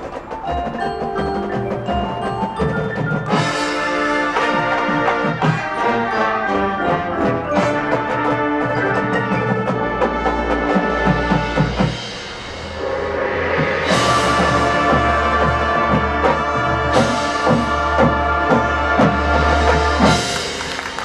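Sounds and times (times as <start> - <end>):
marching band playing: 0.0 - 21.0
marimbas: 0.0 - 21.0.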